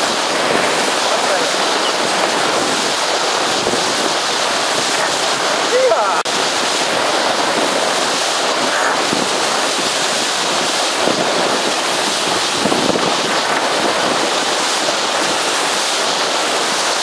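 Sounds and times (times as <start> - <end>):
water hissing past hull: 0.0 - 17.0
wind buffeting microphone: 0.0 - 17.0.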